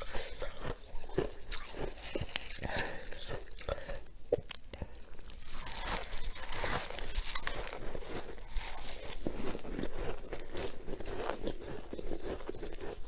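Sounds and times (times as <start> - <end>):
crunching and chewing frost: 0.0 - 13.0.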